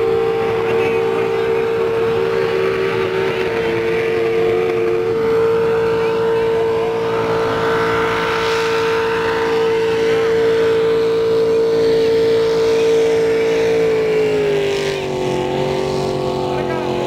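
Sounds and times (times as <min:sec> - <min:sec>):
racing boat engine droning: 0:00.0 - 0:17.0.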